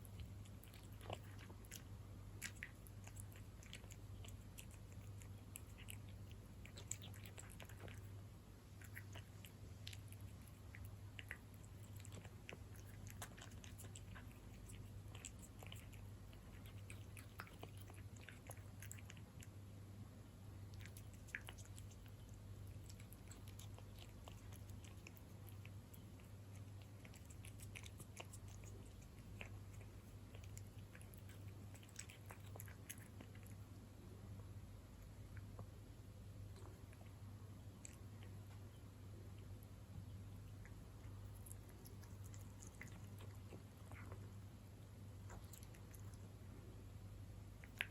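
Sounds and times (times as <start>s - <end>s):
cat chewing wet food: 0.0s - 47.9s
steady low hum: 0.0s - 47.9s.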